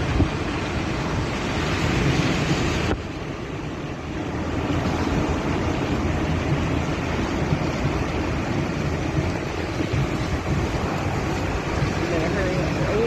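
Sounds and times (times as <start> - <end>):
low car rumble: 0.0 - 13.0
road and wind noise: 0.0 - 13.0.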